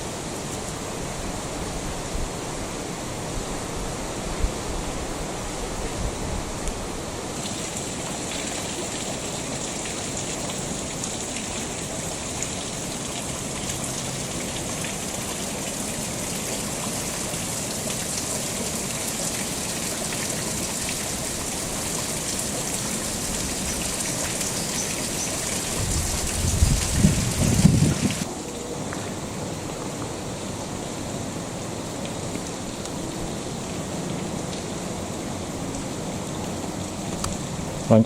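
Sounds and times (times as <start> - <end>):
rushing water: 0.0 - 38.0.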